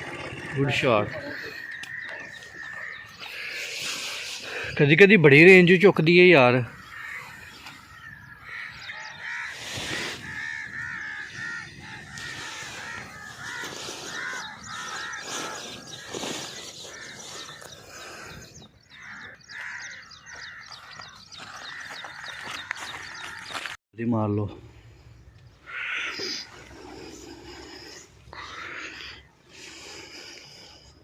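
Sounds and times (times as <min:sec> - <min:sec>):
crows cawing: 0:00.1 - 0:04.7, 0:06.3 - 0:23.8, 0:25.2 - 0:30.9.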